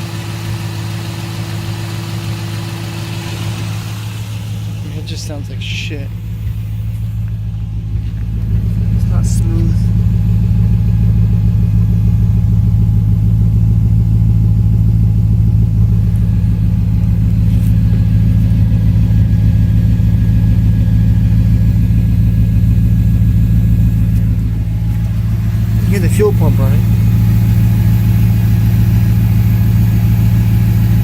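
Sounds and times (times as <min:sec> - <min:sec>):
car engine idling roughly: 0:00.0 - 0:31.0.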